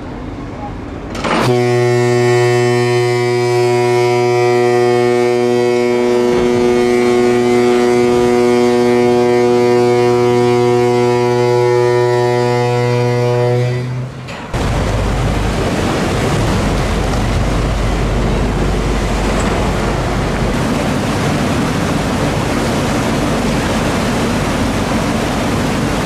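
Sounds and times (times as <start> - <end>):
water rushing: 0.0 - 26.0
deep ship horn blast: 1.1 - 26.0.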